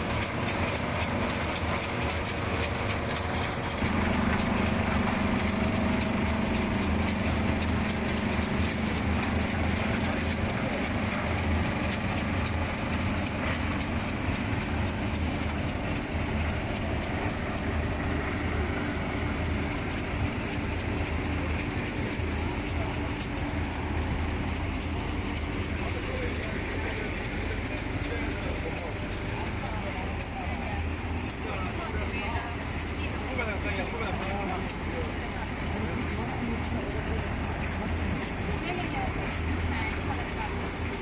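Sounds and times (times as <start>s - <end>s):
vibrating conveyor machine hum: 0.0s - 41.0s.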